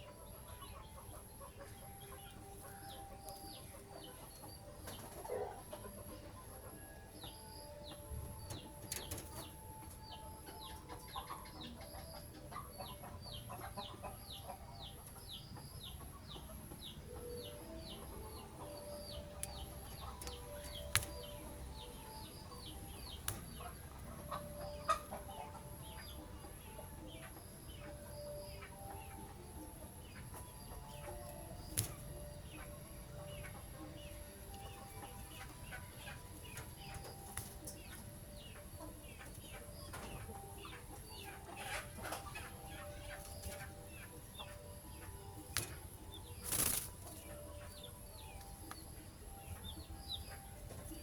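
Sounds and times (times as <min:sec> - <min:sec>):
bird chirping: 0:00.0 - 0:51.0.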